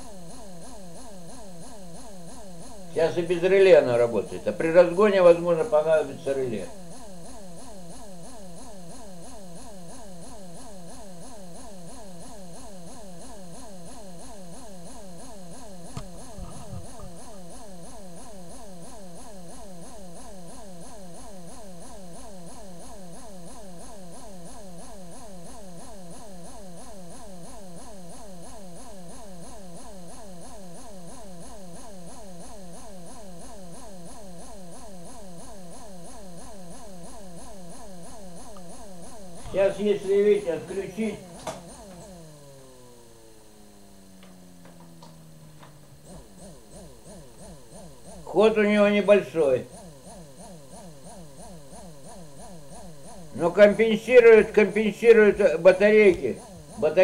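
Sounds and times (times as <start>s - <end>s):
small motor buzzing whine: 0.0s - 3.0s, 5.7s - 53.5s, 55.1s - 57.0s.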